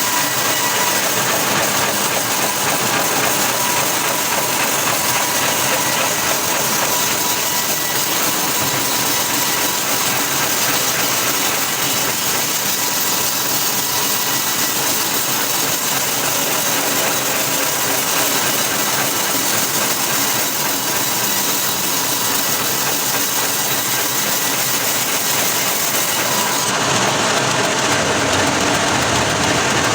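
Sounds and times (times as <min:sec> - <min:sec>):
wood-processing machinery hissing: 0:00.0 - 0:29.9.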